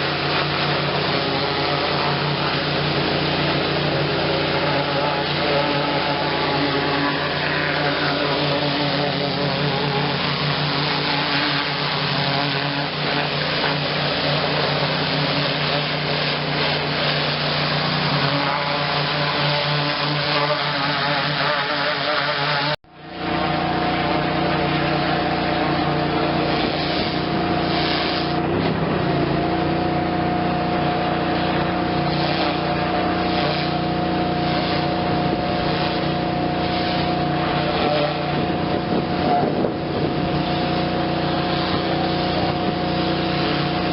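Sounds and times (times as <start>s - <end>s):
power washer engine drone: 0.0s - 43.9s
water spray: 0.0s - 43.9s.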